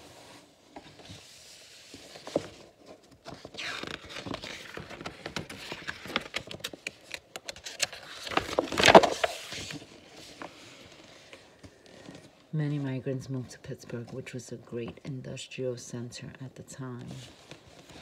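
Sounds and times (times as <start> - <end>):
paper pages rustling: 0.0 - 14.3, 17.0 - 18.0.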